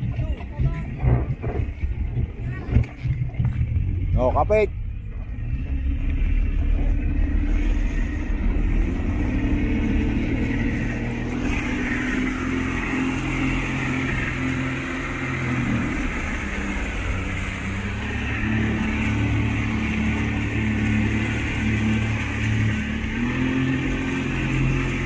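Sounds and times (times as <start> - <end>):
churned water rushing: 0.0 - 25.0
outboard motor running: 0.0 - 25.0.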